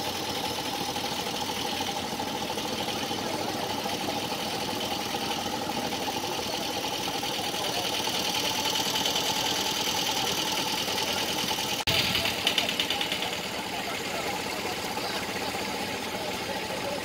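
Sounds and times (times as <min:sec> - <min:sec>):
street noise: 0:00.0 - 0:17.0
vehicle engine running: 0:00.0 - 0:17.0.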